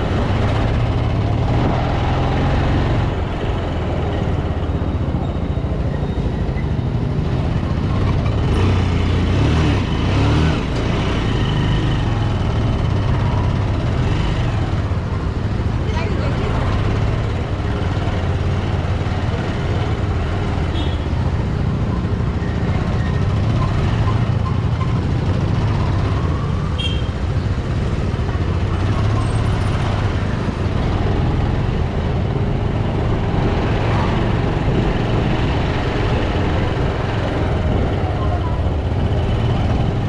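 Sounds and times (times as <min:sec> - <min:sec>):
road and wind noise: 0:00.0 - 0:40.0
street traffic: 0:00.0 - 0:40.0
motorcycle engine running: 0:06.5 - 0:40.0.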